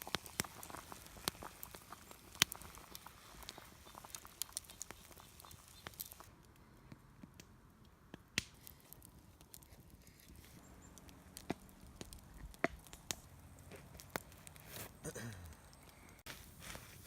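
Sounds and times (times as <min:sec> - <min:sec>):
campfire wood crackling: 0:00.0 - 0:17.0.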